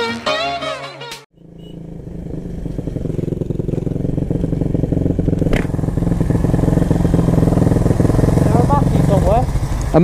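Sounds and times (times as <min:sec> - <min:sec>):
motorcycle engine idling: 0:01.4 - 0:10.0.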